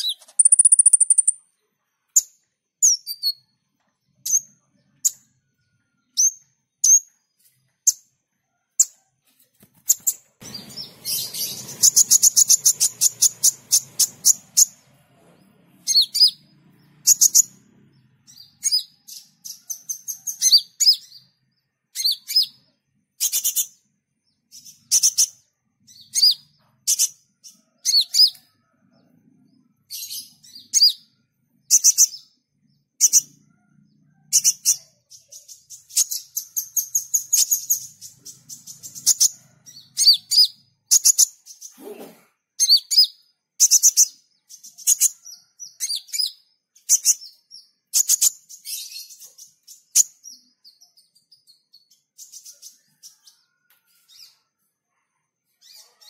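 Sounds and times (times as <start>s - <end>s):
sunbird singing chirps and trills: 0.0s - 8.2s, 9.9s - 14.9s, 15.8s - 41.8s, 42.6s - 54.6s.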